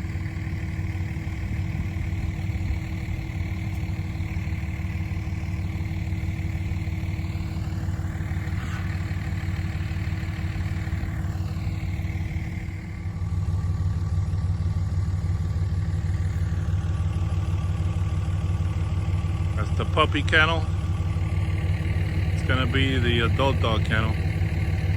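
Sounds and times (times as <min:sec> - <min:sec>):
engine running with low throb: 0:00.0 - 0:24.9.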